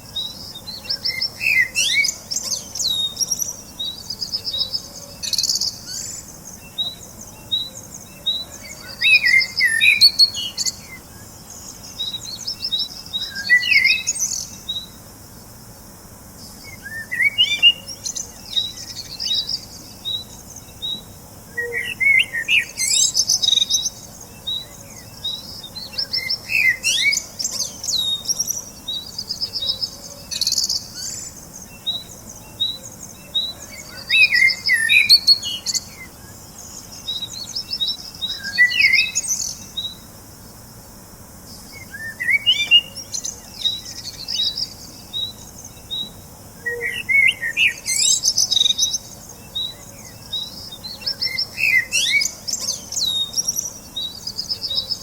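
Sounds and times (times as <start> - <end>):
birds warbling and trilling: 0.0 - 55.0.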